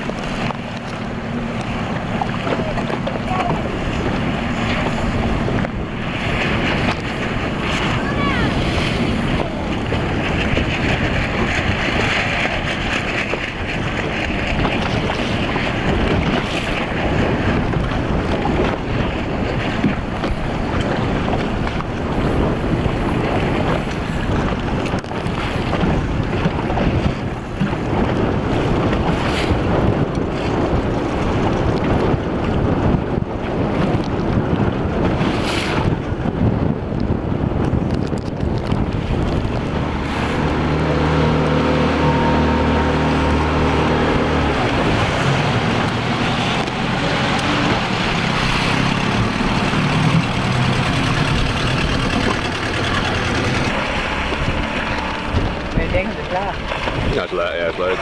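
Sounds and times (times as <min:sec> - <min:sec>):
boat engine humming: 0:00.0 - 0:58.0
choppy water: 0:00.0 - 0:58.0
wind buffeting microphone: 0:00.0 - 0:58.0.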